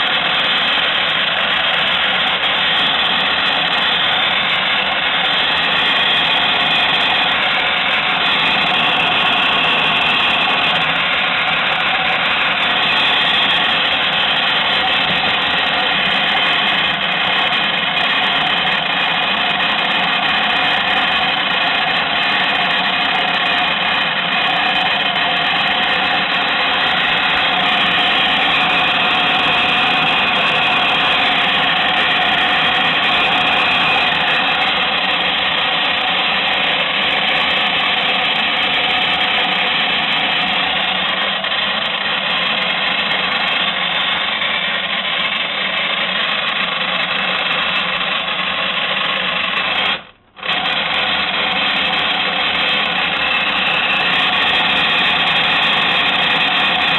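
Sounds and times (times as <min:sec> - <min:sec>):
small electric motor whining: 0:00.0 - 0:56.9.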